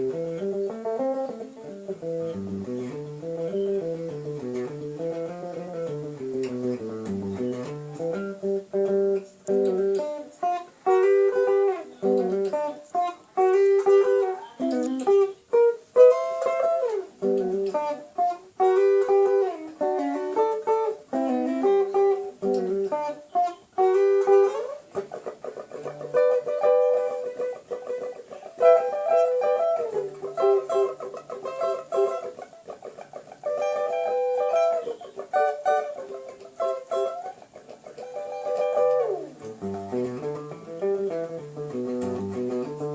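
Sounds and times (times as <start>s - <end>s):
solo guitar: 0.0s - 42.9s.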